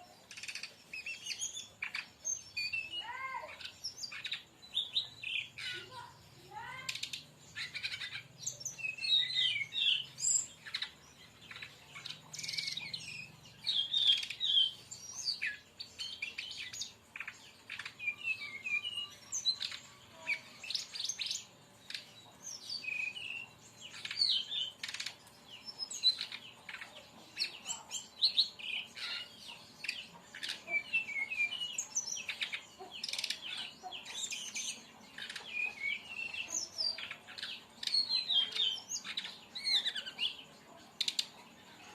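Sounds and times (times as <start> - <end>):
bird chirping and trilling: 0.0 - 41.9.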